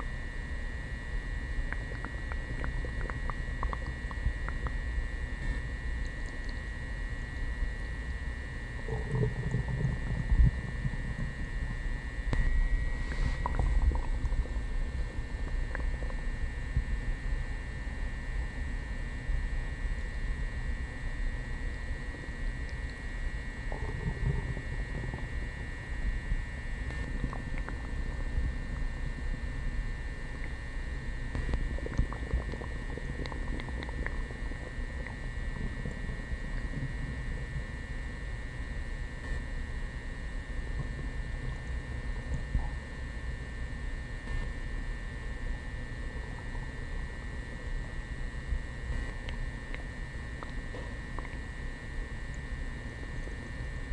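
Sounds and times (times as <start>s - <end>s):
stomach gurgling and rumbling: 0.0s - 53.9s.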